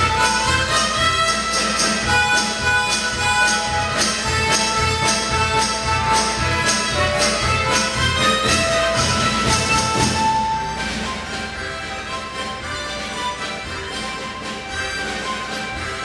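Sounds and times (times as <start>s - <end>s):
harmonica ensemble playing a march: 0.0s - 16.0s.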